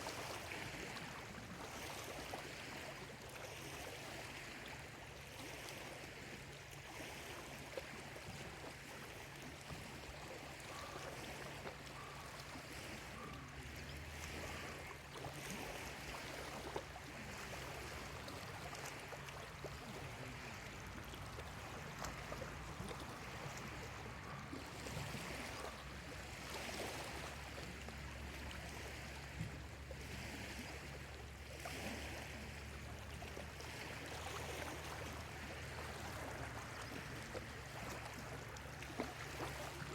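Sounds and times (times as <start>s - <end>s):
waves lapping at shore: 0.0s - 39.9s.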